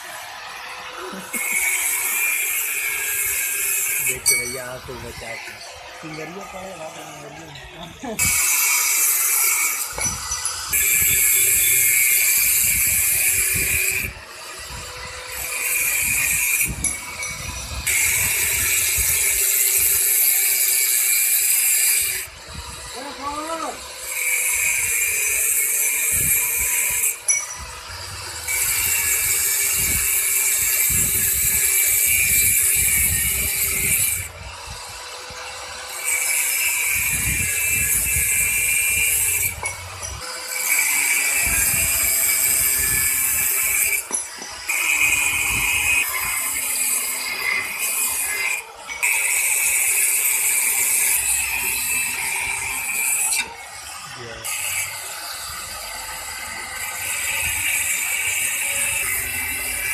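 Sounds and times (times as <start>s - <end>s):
angle grinder cutting steel: 0.0s - 59.9s
grinder motor running: 0.0s - 59.9s.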